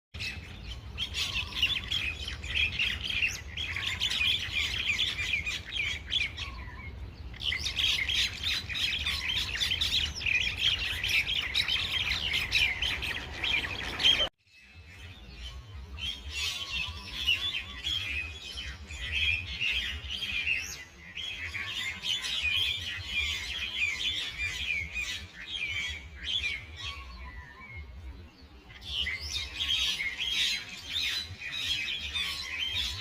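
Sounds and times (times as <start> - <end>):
birds squawking and chattering: 0.2 - 33.0.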